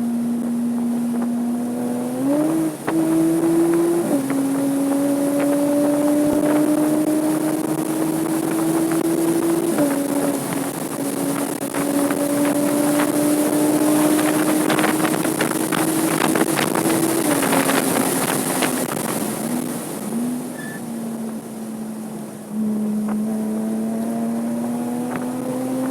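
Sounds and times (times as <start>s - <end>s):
rev blips: 0.0s - 21.4s
car engine at high revs: 0.0s - 25.9s
wind noise: 0.0s - 25.9s.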